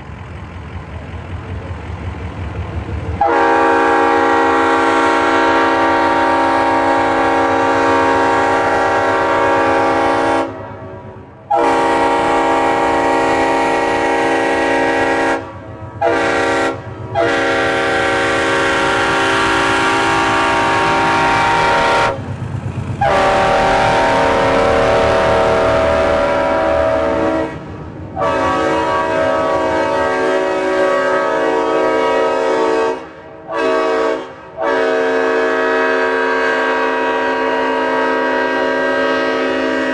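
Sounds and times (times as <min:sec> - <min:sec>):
train air horn blasts: 0:03.2 - 0:22.3, 0:23.0 - 0:39.9.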